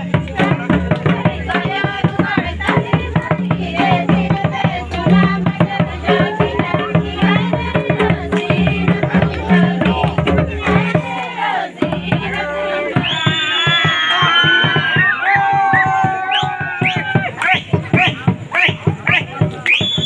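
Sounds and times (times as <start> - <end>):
hand drums beating: 0.0 - 20.0
voices singing: 0.0 - 20.0.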